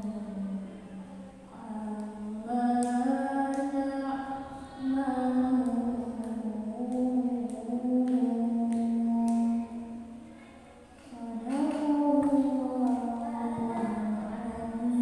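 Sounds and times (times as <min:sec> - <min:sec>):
woman chanting recitation: 0:00.0 - 0:15.0.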